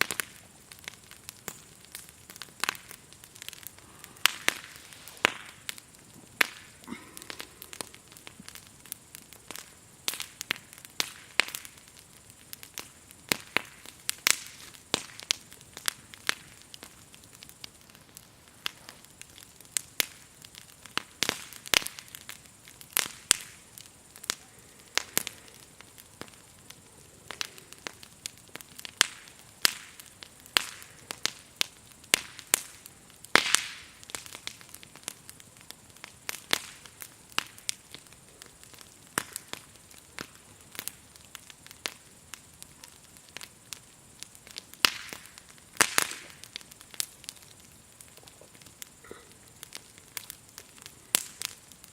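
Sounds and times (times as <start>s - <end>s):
firewood crackling and popping: 0.0s - 51.9s
insects chirring: 0.0s - 51.9s.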